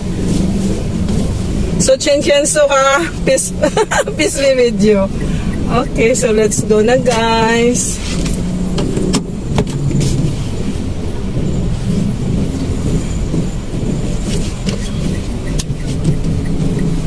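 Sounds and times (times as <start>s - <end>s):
car engine hum from cabin: 0.0s - 17.0s.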